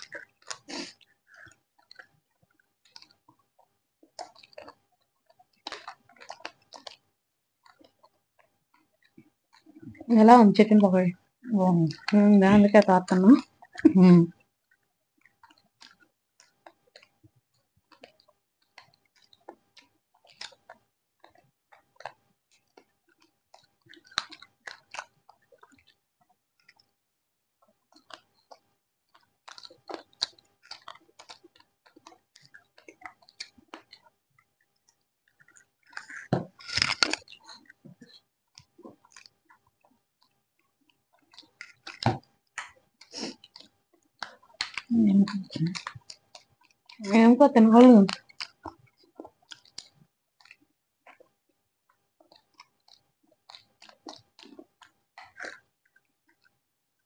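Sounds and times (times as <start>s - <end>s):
people chewing crunchy food: 0.0s - 57.0s.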